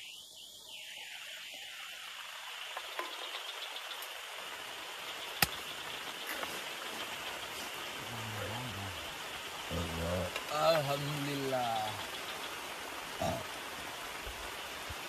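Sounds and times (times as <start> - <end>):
heavy rain falling: 2.0 - 15.0.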